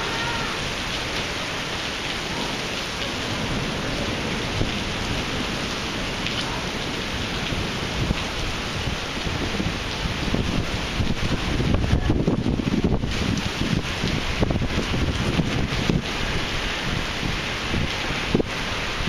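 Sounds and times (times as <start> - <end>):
heavy rain on pavement and cars: 0.0 - 19.0
low thunder rumbling: 0.0 - 19.0.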